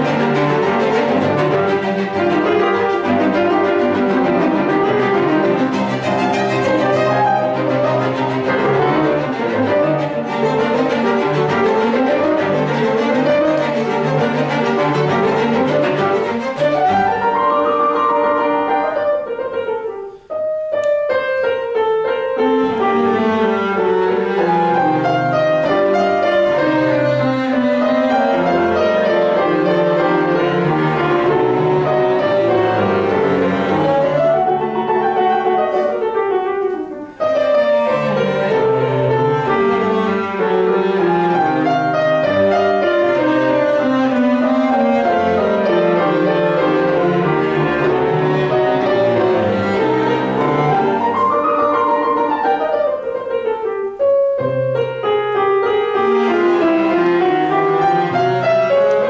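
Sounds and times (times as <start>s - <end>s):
classical chamber music: 0.0s - 59.0s.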